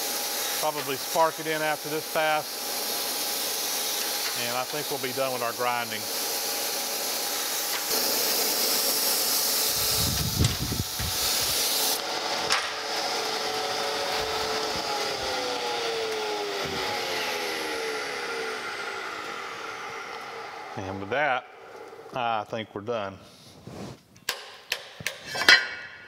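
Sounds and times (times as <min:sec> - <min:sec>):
grinder wheel hissing: 0:00.0 - 0:22.2
spindle winding down whine: 0:00.0 - 0:22.2.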